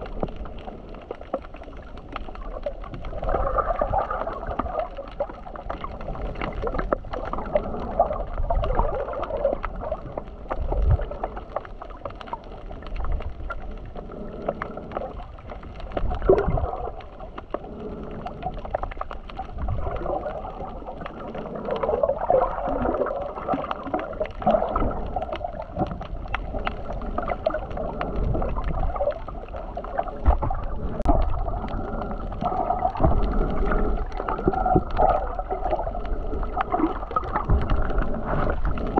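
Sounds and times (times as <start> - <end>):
underwater gurgling and bubbling: 0.0 - 38.9.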